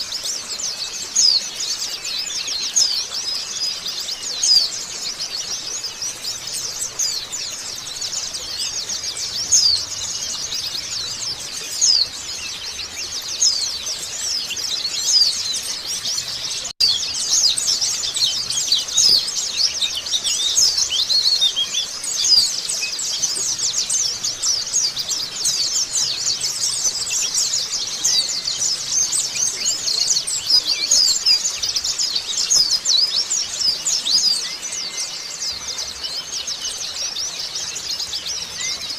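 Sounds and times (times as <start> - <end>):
bird twittering: 0.0 - 38.9.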